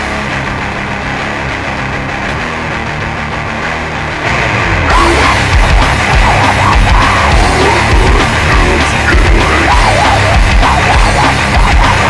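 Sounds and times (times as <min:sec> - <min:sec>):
loud grindcore music: 0:00.0 - 0:12.0.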